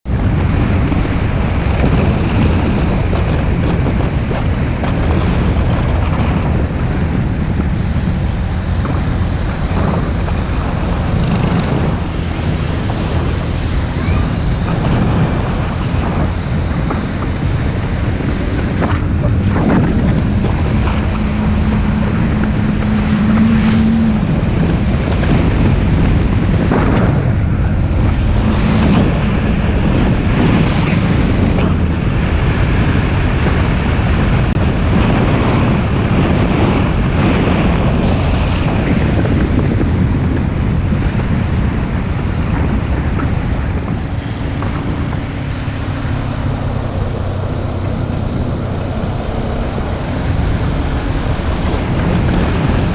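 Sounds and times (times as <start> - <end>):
wind buffeting microphone: 0.0 - 52.9
motorbike engine: 0.3 - 38.1, 42.5 - 52.9.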